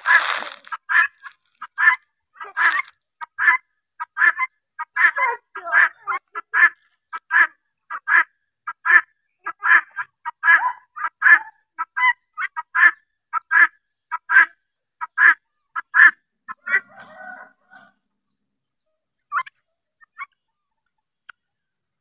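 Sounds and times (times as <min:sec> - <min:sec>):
guineafowl calling harshly: 0:00.0 - 0:18.0, 0:19.3 - 0:20.6.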